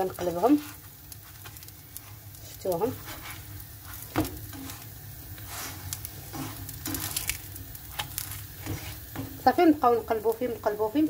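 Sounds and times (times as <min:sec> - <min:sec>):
dough sizzling in a frying pan: 0:00.0 - 0:11.0.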